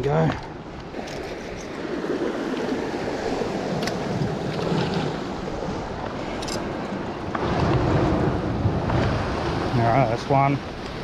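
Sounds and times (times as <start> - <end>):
wind buffeting microphone: 0.0 - 11.0
surf washing against rocks: 1.0 - 11.0.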